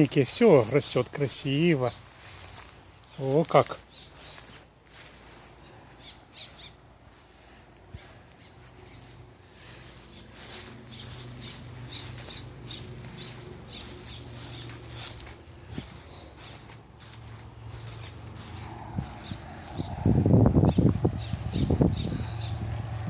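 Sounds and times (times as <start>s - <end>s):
birds chirping and squawking: 1.8s - 23.0s.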